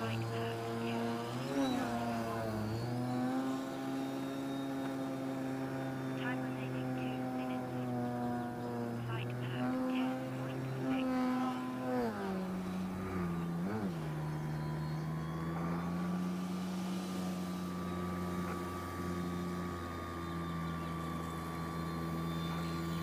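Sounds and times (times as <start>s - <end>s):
model plane engine and propeller: 0.0s - 23.0s.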